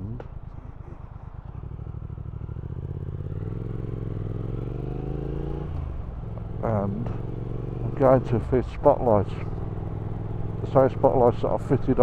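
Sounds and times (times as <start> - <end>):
motorcycle engine revving: 0.2 - 12.0.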